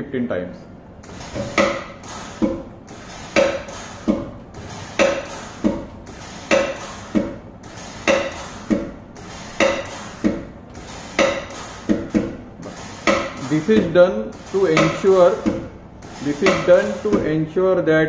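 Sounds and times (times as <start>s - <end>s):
press cylinder clacking and hissing: 1.0s - 17.4s.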